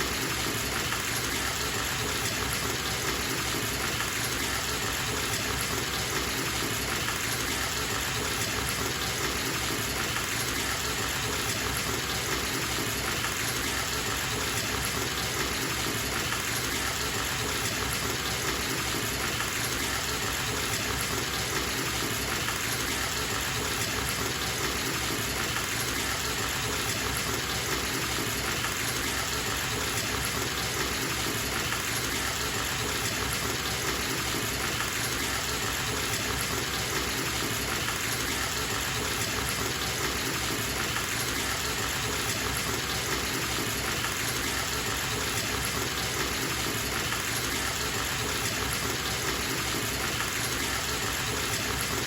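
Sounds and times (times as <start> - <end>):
water gushing from bathtub tap: 0.0 - 52.0.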